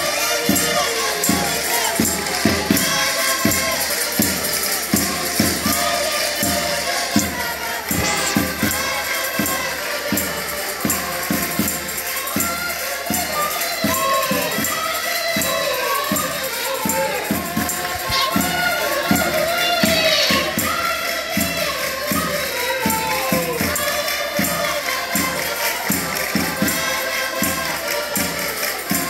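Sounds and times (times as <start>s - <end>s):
button accordions: 0.0s - 29.0s
folk group singing in chorus: 0.0s - 29.0s
tambourine: 0.0s - 29.0s
steady beat: 0.5s - 24.1s.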